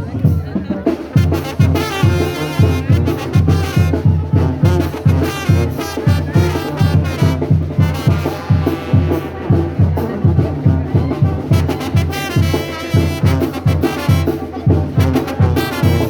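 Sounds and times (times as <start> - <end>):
brass band playing: 0.0 - 16.0.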